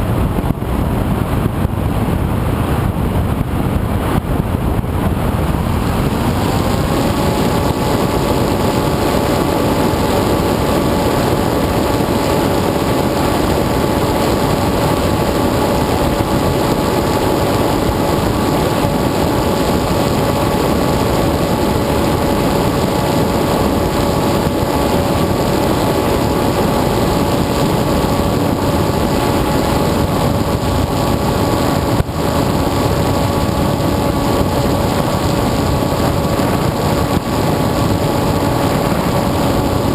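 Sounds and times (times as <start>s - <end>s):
rushing wind noise: 0.0s - 39.9s.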